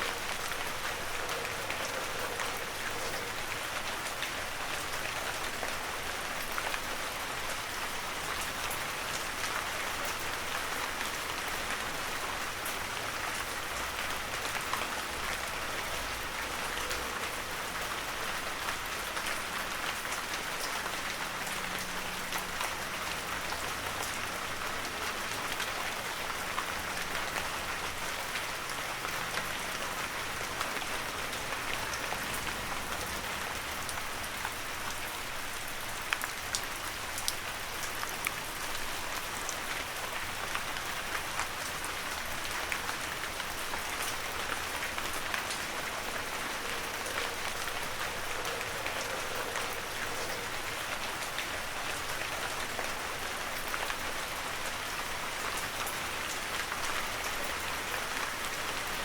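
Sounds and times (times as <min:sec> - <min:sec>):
heavy rain falling: 0:00.0 - 0:59.0
raindrops pattering: 0:00.0 - 0:59.0.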